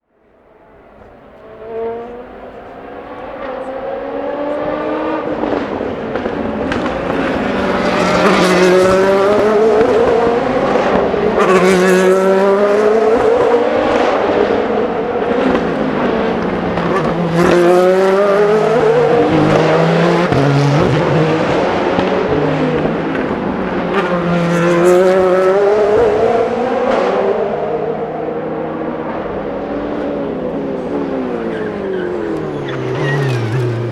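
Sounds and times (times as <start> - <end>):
race cars passing at speed: 0.1 - 33.9.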